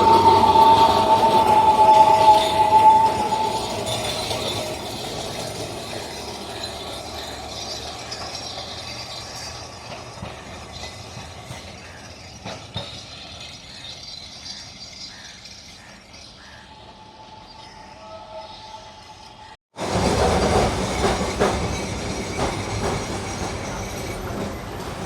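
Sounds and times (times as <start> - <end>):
tram rattling on rails: 0.0 - 25.0.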